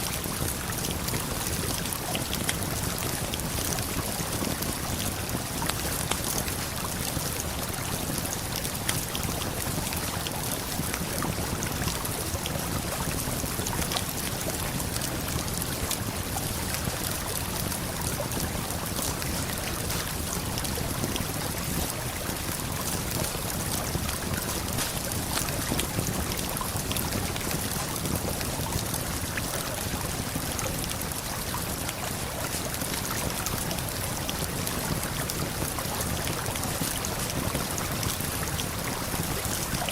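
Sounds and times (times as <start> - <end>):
campfire crackling: 0.1 - 36.2.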